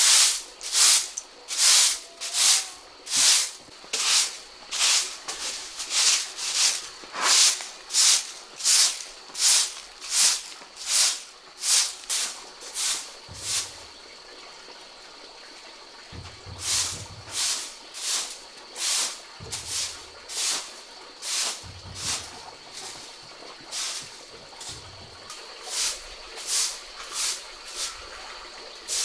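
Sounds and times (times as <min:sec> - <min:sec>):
broom sweeping concrete floor: 0:00.0 - 0:14.0, 0:16.2 - 0:29.0.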